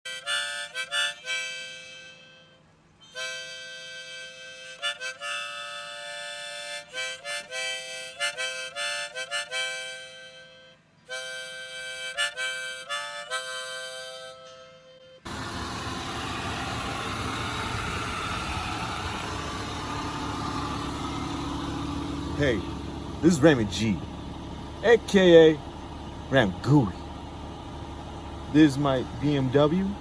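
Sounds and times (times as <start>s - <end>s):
harmonica music: 0.1s - 30.0s.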